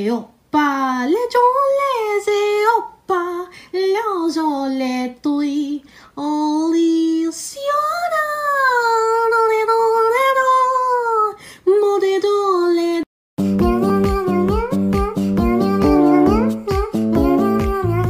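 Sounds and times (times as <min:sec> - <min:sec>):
woman singing unaccompanied: 0:00.9 - 0:13.0, 0:13.6 - 0:18.0.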